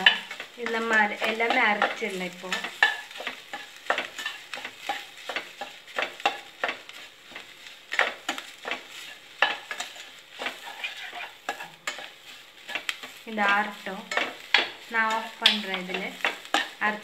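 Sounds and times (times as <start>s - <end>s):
metal spatula scraping a pan: 0.0s - 17.0s.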